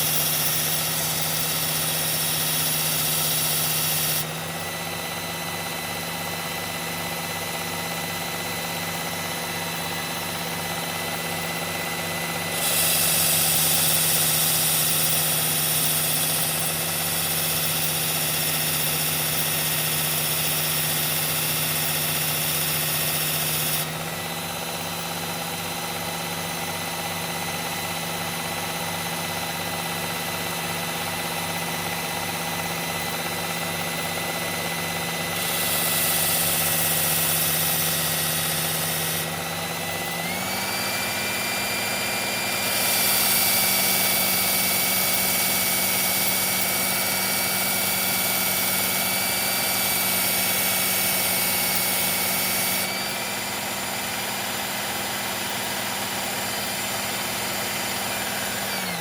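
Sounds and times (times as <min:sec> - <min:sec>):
belt sharpener motor running: 0:00.0 - 0:59.0
blade grinding on abrasive belt: 0:00.0 - 0:59.0.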